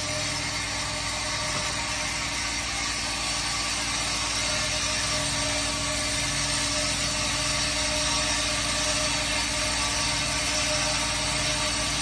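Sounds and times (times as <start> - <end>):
filling machine humming and hissing: 0.0 - 12.0
high machine whine: 0.0 - 12.0.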